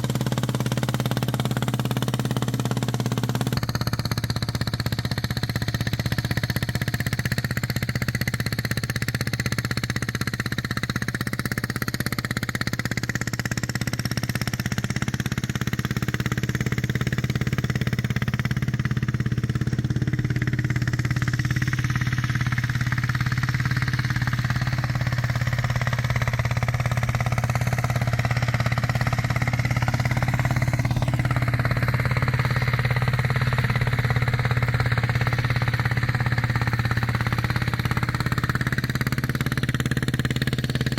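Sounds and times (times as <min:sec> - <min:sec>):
small tractor engine running: 0:00.0 - 0:40.9.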